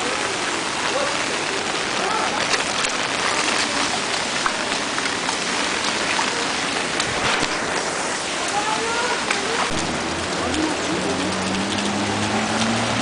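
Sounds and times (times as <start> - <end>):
drips and splashes: 0.0 - 13.0
heavy rain on wet concrete: 0.0 - 13.0.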